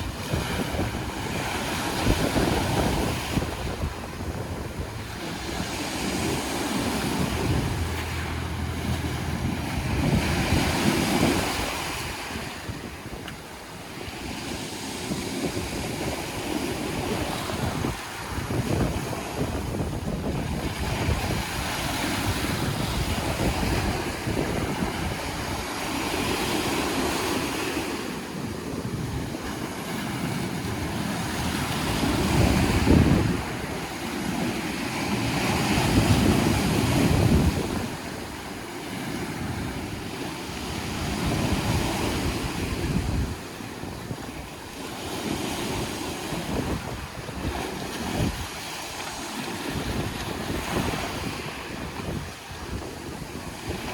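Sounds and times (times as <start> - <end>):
small waves washing ashore: 0.0 - 53.9
wind buffeting microphone: 0.0 - 53.9.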